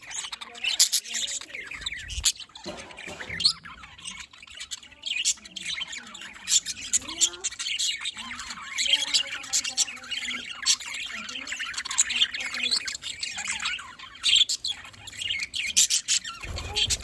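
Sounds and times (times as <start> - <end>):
budgerigars chirping and squawking: 0.0 - 17.0.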